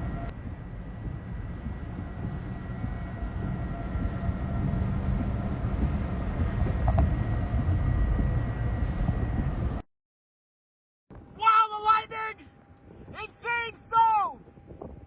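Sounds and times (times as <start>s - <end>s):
strong wind rumble: 0.0s - 9.8s, 11.1s - 15.0s.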